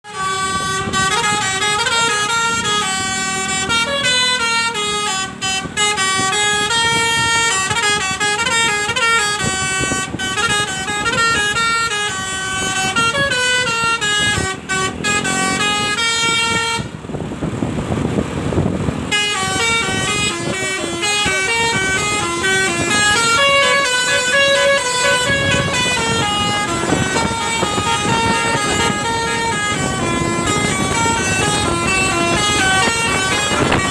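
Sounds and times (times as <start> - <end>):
musical bus horn melody: 0.0 - 17.2, 19.0 - 33.9.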